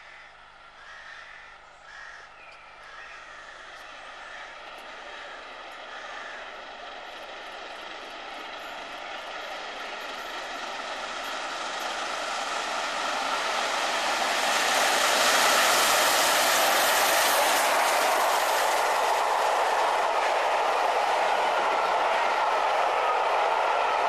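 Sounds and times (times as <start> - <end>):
steam locomotive passing at speed: 0.0 - 24.0
carriages clattering past: 3.7 - 24.0.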